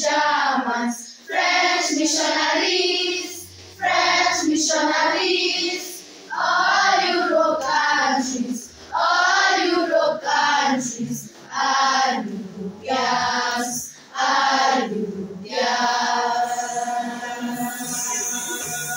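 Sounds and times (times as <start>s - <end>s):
choir singing: 0.0s - 18.9s.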